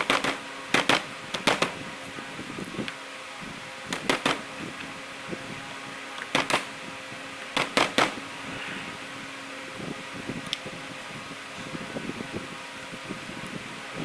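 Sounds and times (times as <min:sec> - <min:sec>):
electric fan humming: 0:00.0 - 0:14.0.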